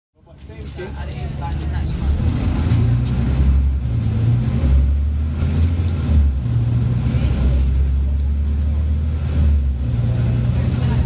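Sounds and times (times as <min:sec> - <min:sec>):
bus diesel engine drone: 0:00.2 - 0:11.0.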